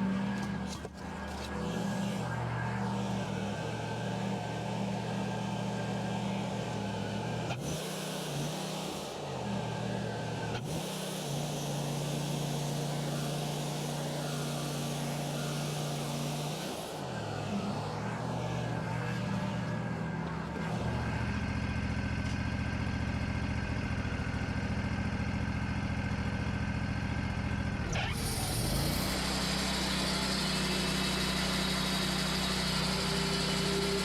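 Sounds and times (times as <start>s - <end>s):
sawmill engine running: 0.0s - 34.0s.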